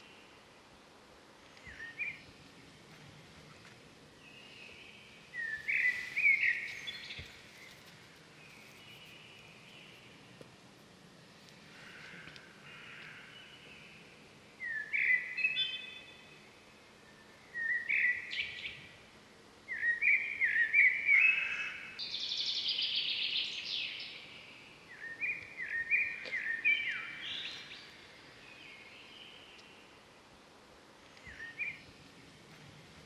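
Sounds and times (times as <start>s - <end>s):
faint outdoor background: 0.0s - 33.0s
songbird chirping: 0.0s - 33.0s.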